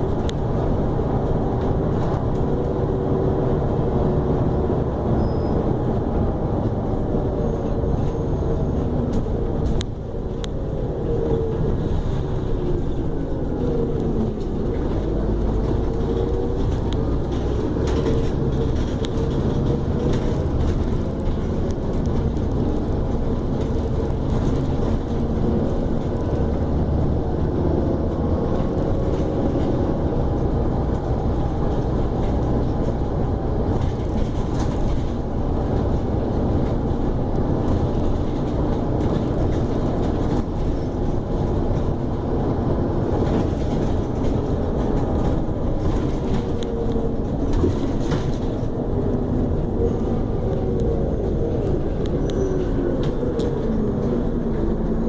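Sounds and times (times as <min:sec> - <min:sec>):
bus engine rumble: 0:00.0 - 0:55.0
drivetrain whine: 0:00.0 - 0:55.0
road noise: 0:00.0 - 0:55.0.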